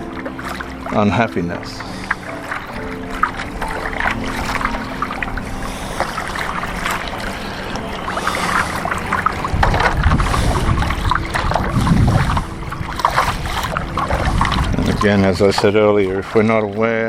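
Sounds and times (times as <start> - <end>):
low rumble: 0.0 - 15.7
water lapping: 0.0 - 17.0
wind: 0.0 - 17.0.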